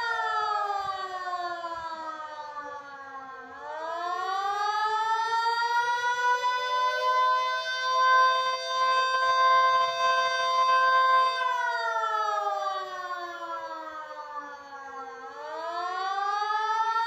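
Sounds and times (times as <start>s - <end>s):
warning siren sweeping in pitch: 0.0s - 17.0s.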